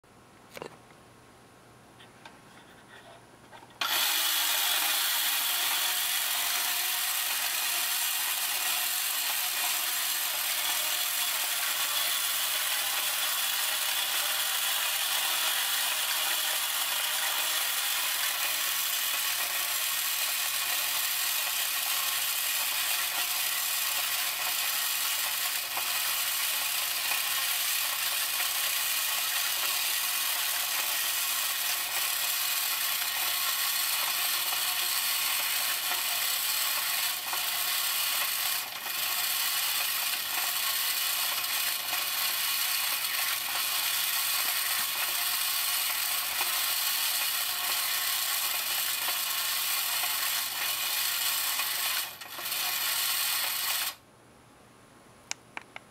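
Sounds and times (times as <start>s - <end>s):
clockwork toy gears whirring: 3.8s - 54.0s.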